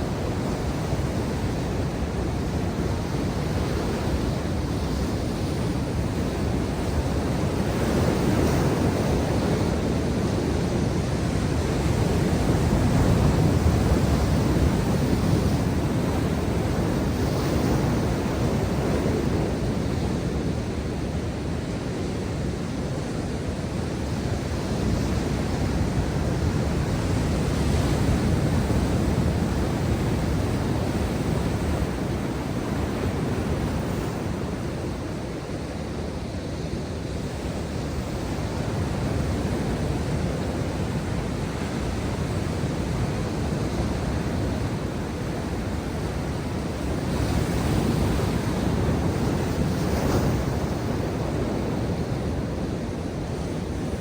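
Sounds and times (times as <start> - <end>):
waves breaking on shore: 0.0 - 54.0.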